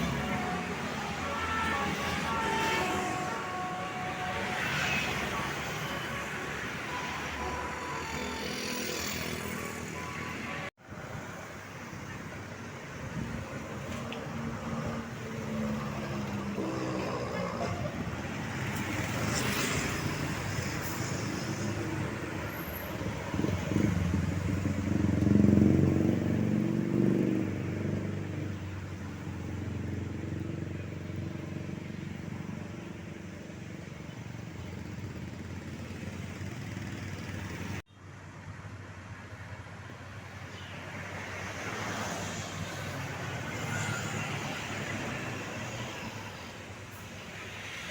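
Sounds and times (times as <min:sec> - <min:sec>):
road traffic going by: 0:00.0 - 0:47.9.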